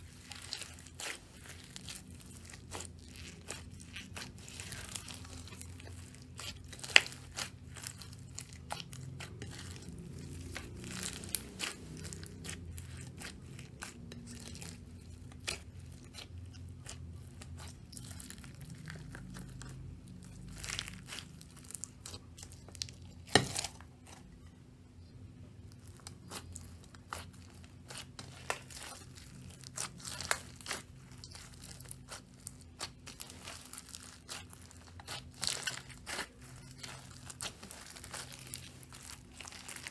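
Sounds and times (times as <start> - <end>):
slime crackling and popping: 0.0 - 23.8, 25.7 - 39.9
faint low hum: 0.0 - 39.9.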